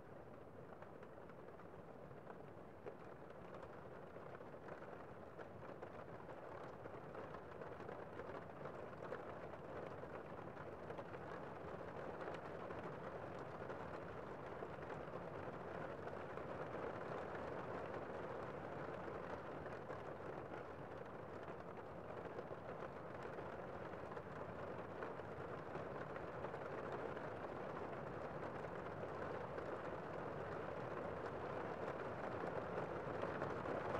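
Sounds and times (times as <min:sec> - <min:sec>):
rain on a window: 0:00.0 - 0:33.9.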